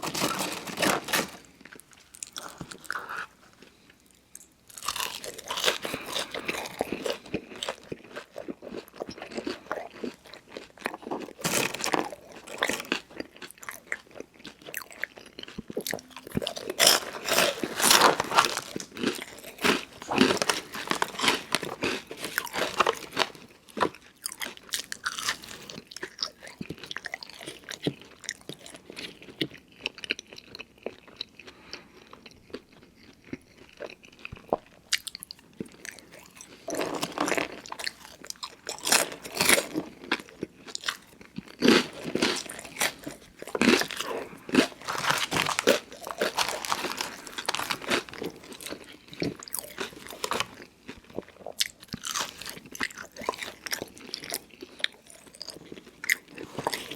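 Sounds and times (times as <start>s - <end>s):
person chewing crunchy food: 0.0s - 56.9s.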